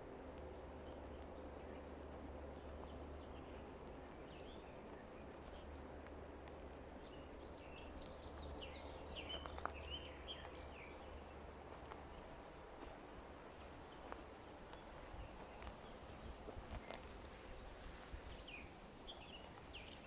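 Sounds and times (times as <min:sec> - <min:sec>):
faint forest ambience: 0:00.0 - 0:20.0
low steady hum: 0:00.0 - 0:20.0.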